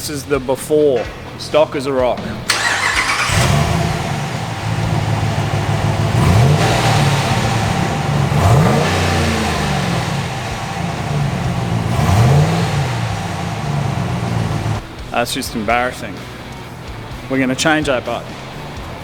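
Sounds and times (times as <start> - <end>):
truck engine idling and revving: 2.2 - 19.0.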